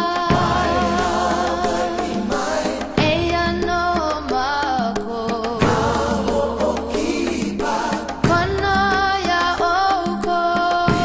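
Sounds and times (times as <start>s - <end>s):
wavering melody over percussion beat: 0.0s - 11.0s.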